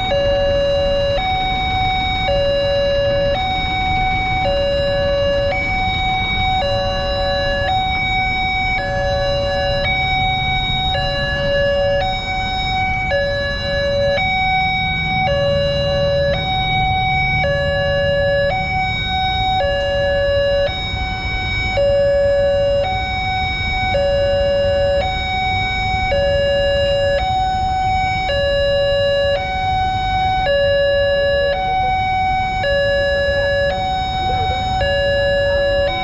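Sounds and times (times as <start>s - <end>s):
idling traffic rumble: 0.0s - 36.0s
two-tone crossing alarm: 0.0s - 36.0s.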